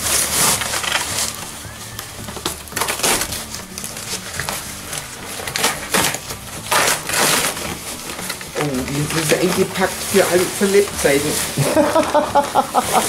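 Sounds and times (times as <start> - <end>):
cardboard crunching and scraping: 0.0 - 13.0.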